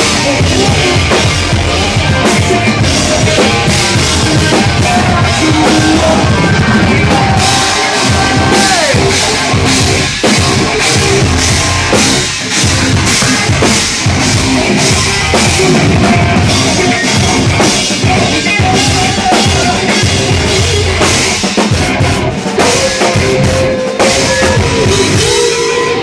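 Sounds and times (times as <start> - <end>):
metal band playing: 0.0 - 26.0.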